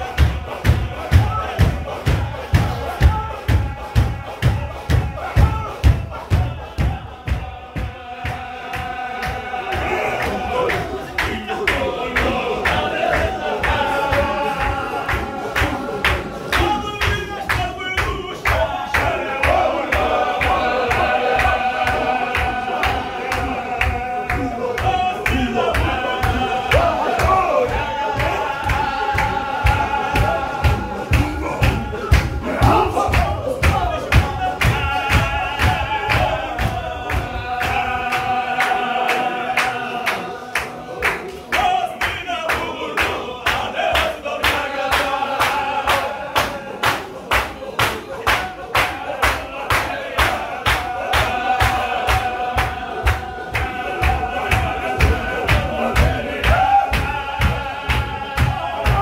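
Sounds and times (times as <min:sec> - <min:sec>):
men chanting in unison: 0:00.0 - 0:59.0
stamping and clapping beats: 0:00.0 - 0:59.0.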